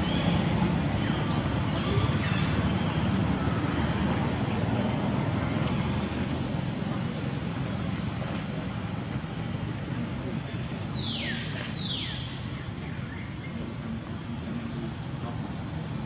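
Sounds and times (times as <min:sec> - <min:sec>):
low outdoor background rumble: 0:00.0 - 0:16.0.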